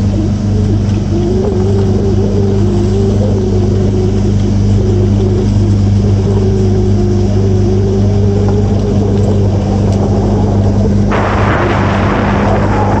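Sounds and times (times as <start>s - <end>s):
outboard motor droning: 0.0s - 13.0s
rushing wind or water: 0.0s - 13.0s.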